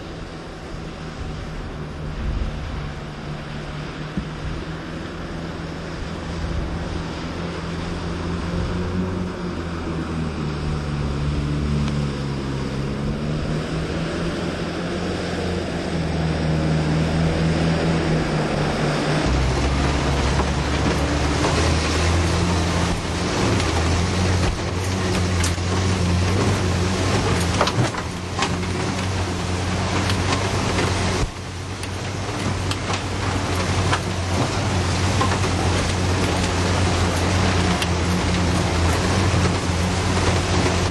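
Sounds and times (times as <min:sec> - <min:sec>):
water splashing and rushing: 0:00.0 - 0:40.9
vehicle engine revving: 0:05.9 - 0:40.9.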